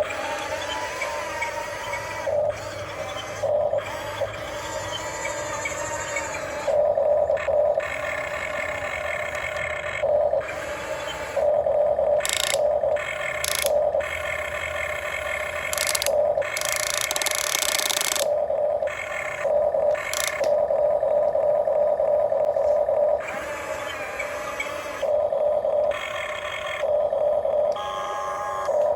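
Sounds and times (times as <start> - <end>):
electric motors whining: 0.0 - 28.9.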